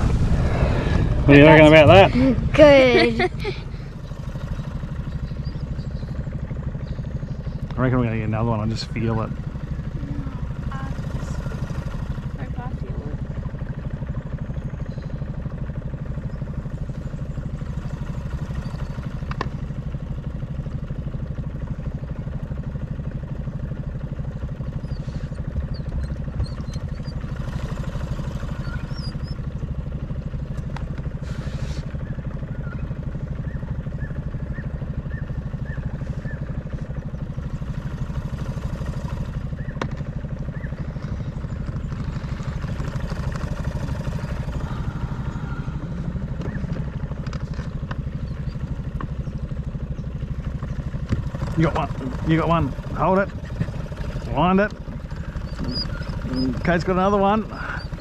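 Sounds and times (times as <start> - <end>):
boat motor humming: 0.0 - 58.0.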